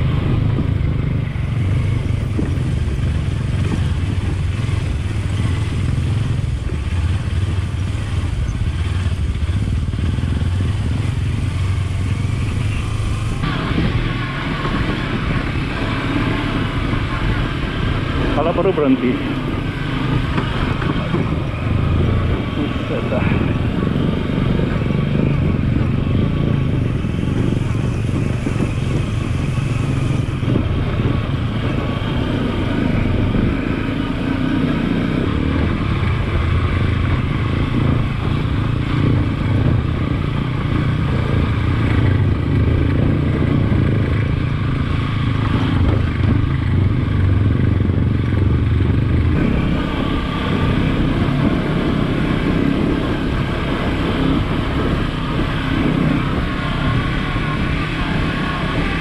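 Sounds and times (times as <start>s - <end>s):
motorcycle engine running: 0.0s - 59.0s
road noise: 0.0s - 59.0s.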